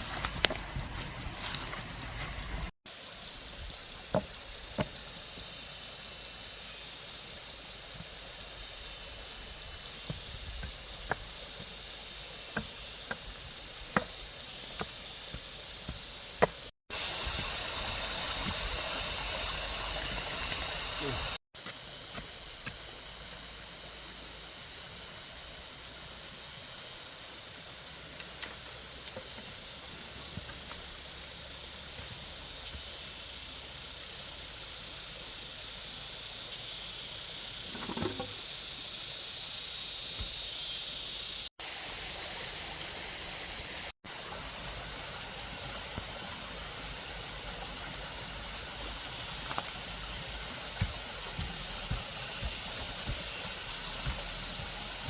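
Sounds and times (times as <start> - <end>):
steady high-pitched hiss: 0.0 - 55.0.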